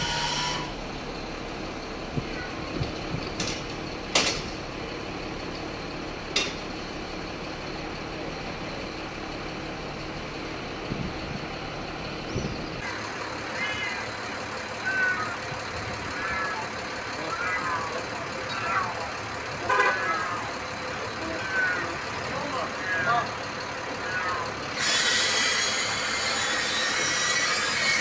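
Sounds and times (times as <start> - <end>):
fire truck engine running: 0.0 - 28.0.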